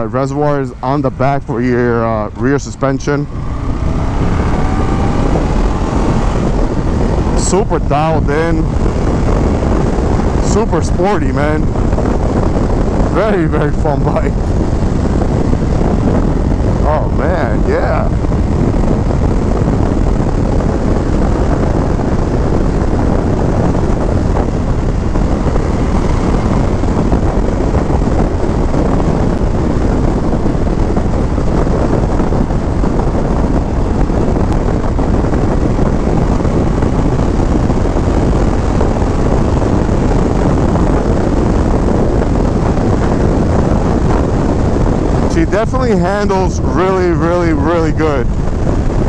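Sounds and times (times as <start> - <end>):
motorcycle engine running: 0.0 - 49.0
wind rush over microphone: 0.0 - 49.0.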